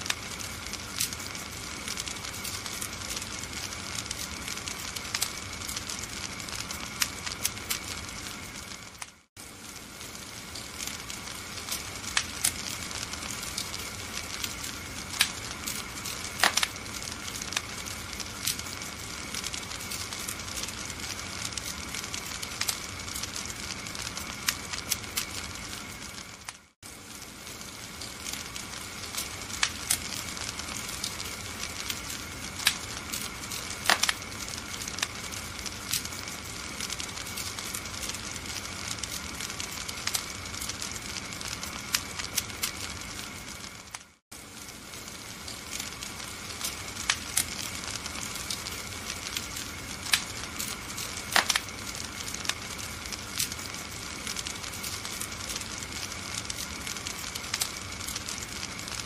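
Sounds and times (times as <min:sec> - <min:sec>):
steady hiss: 0:00.0 - 0:59.0
wood fire crackling and popping: 0:00.0 - 0:59.0.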